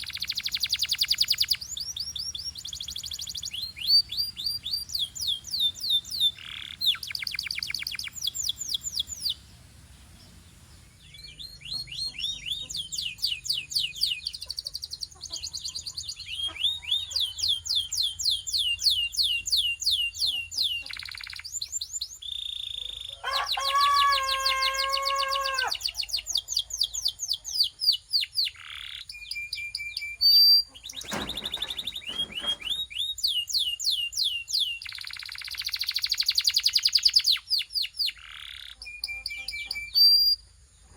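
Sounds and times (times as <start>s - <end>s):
canary singing trills: 0.0s - 40.5s.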